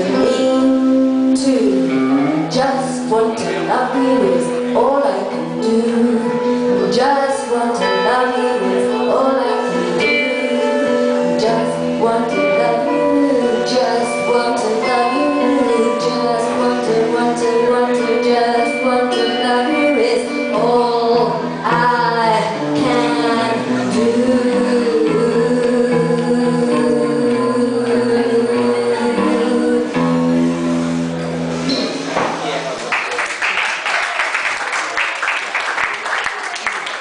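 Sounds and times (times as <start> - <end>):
woman singing: 0.0 - 30.6
acoustic guitar: 0.0 - 32.9.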